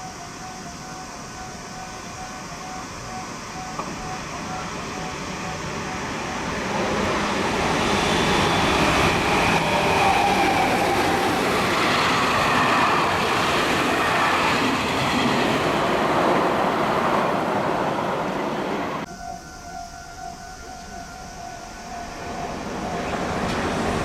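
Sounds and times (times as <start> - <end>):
electric train passing: 0.0 - 24.0
faint whining tones: 0.0 - 24.0.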